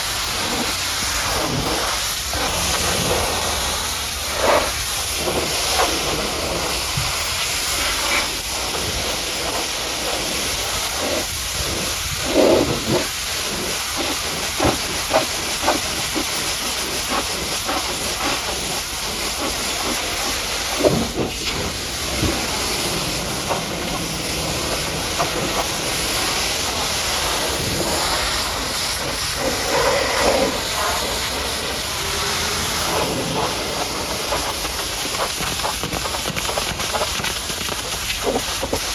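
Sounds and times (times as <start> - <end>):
pressure washer jet hissing: 0.0 - 38.9.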